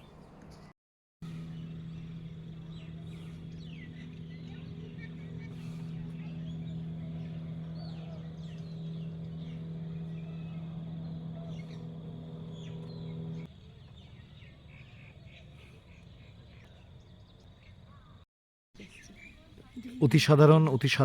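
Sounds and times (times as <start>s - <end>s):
engine hum: 0.0s - 18.2s
small birds chirping: 0.0s - 18.2s, 18.8s - 21.0s
faint outdoor background: 0.0s - 21.0s.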